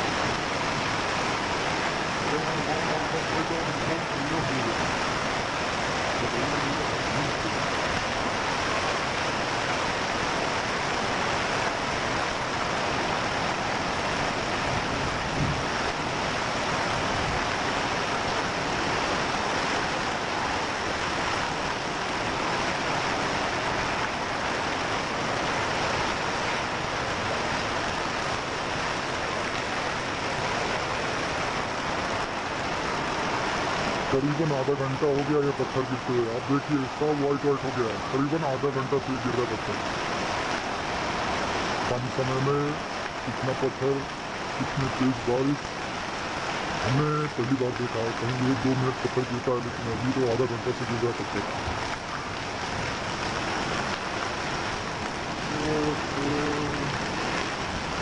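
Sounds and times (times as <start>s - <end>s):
heavy rain and hail: 0.0s - 58.0s.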